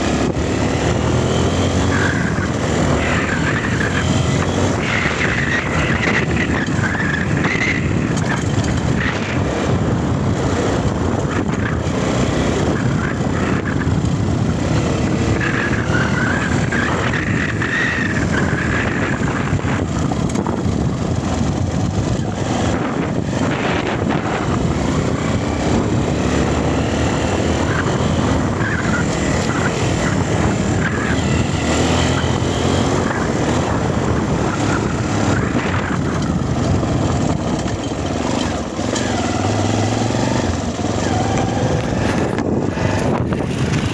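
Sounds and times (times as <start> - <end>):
dirt bike engine running: 0.0 - 43.9.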